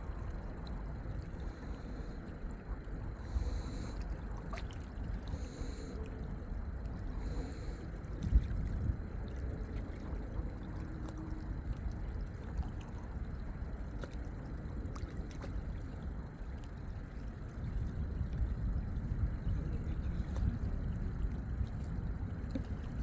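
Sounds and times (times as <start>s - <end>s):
low steady rumble: 0.0s - 23.0s
small waves lapping: 0.0s - 23.0s.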